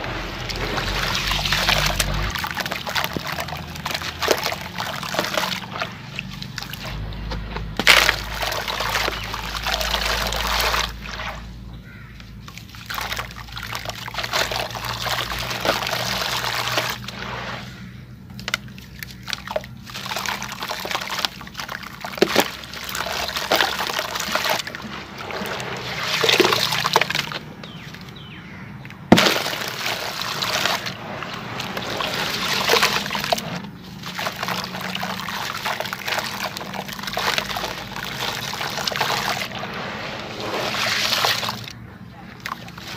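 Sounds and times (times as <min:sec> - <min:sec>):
chunks splashing into water: 0:00.0 - 0:42.9
water sloshing and trickling: 0:00.0 - 0:42.9.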